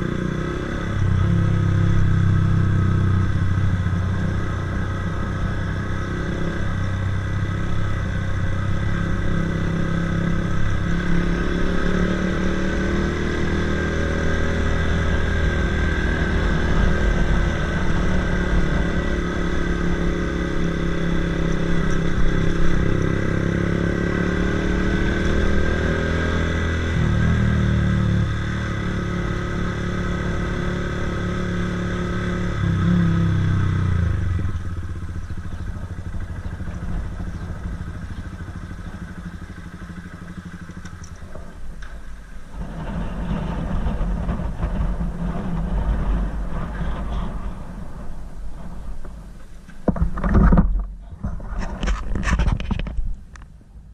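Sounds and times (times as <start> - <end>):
motorcycle engine revving: 0.0 - 49.2.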